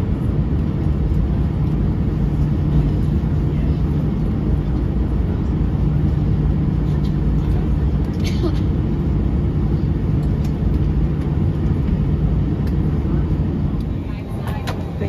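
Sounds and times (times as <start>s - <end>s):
jet engines idling hum: 0.0s - 15.0s.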